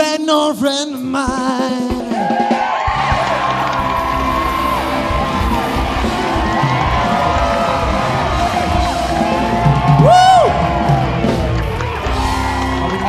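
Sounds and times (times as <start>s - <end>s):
rock and roll music: 0.0s - 13.0s
audience cheering and screaming: 2.0s - 13.0s
loud high scream: 2.2s - 13.0s.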